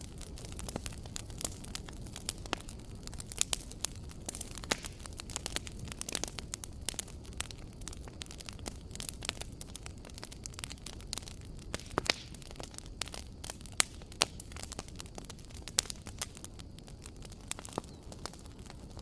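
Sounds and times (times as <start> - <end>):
fire pops and snaps: 0.0 - 19.0
low rumble of burning: 0.0 - 19.0
wood fire crackling: 0.0 - 19.0.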